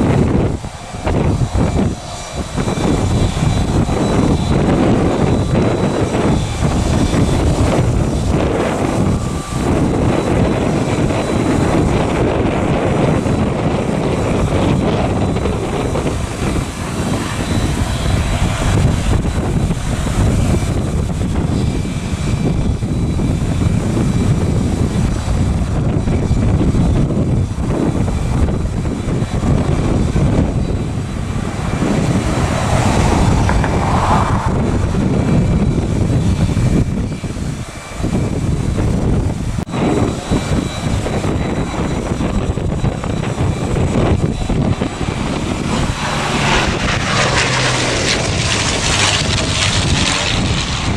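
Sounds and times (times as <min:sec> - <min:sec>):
airplane engine: 0:00.0 - 0:50.9.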